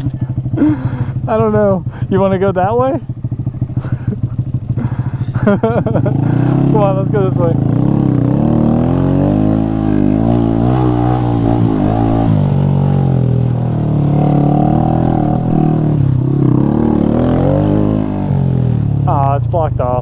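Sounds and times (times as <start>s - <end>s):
minibike engine revving: 3.2s - 19.4s.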